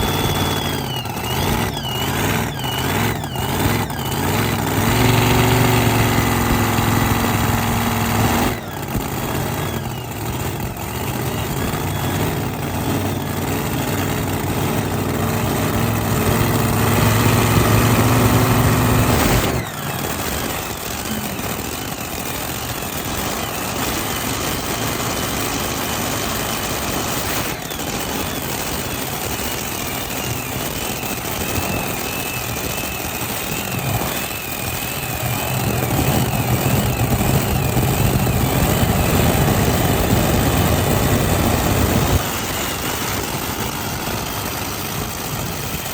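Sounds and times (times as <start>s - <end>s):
tractor engine running: 0.0s - 45.9s
wavering high whine: 0.0s - 45.9s.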